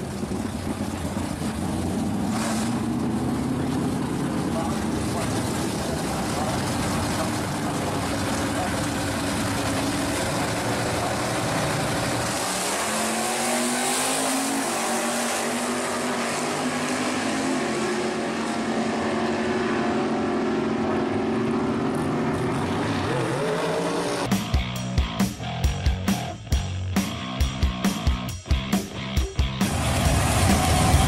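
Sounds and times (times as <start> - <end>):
drag car engines accelerating: 0.0 - 24.6, 27.1 - 31.0.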